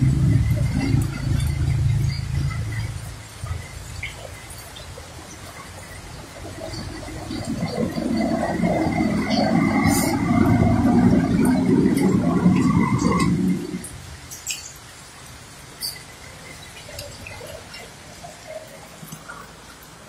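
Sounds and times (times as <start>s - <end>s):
car splashing through floodwater: 0.0s - 20.0s
quiet steady water wash: 0.0s - 20.0s.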